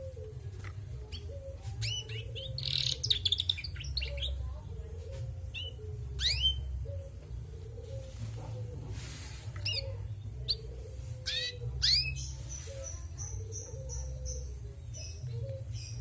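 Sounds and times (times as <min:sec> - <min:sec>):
canary chirping: 0:00.0 - 0:16.0.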